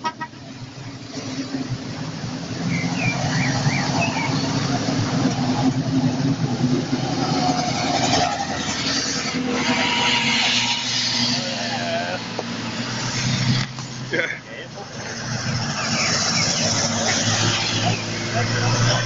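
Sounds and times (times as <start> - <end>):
car engines running at low speed: 0.0 - 19.0
tyres hissing on wet road: 0.3 - 19.0.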